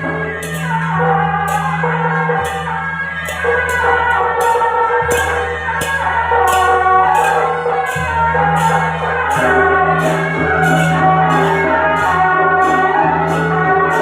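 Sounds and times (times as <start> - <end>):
percussion crashes: 0.0 - 14.0
wind instrument melody: 0.0 - 14.0.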